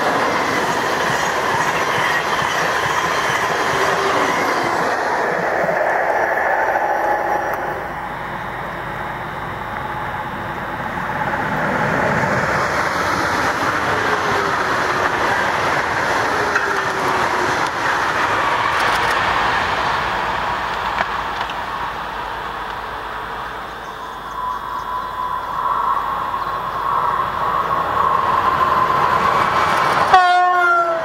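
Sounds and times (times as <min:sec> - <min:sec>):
high-speed train passing: 0:00.0 - 0:31.0
train approaching with whine: 0:00.0 - 0:31.0.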